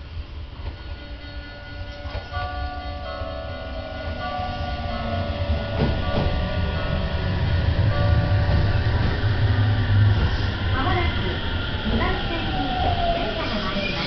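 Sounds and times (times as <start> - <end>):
electric train pulling into station: 0.0 - 14.0.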